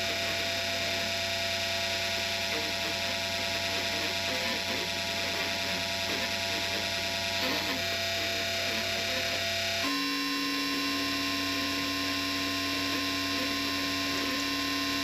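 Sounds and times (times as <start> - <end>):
electrical buzz: 0.0 - 15.0.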